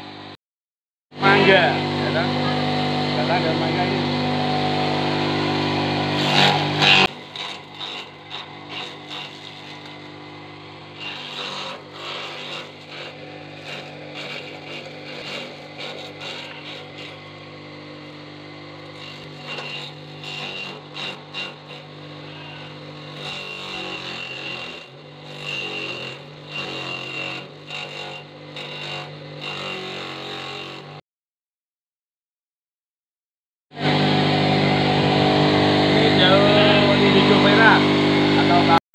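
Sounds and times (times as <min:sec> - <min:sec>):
electric chopper motor hum: 0:01.2 - 0:31.0, 0:33.8 - 0:38.8.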